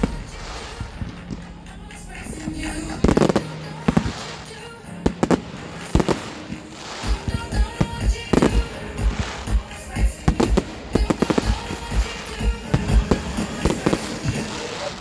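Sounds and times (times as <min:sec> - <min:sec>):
fireworks bangs: 0:00.0 - 0:15.0
pop music: 0:00.0 - 0:15.0.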